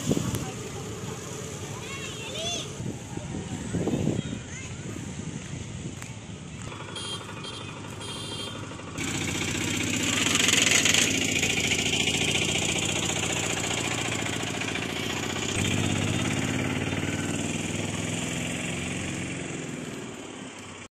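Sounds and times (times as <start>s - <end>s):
vehicle engine running: 0.0s - 4.2s, 4.8s - 20.9s
road noise hiss: 0.0s - 20.9s.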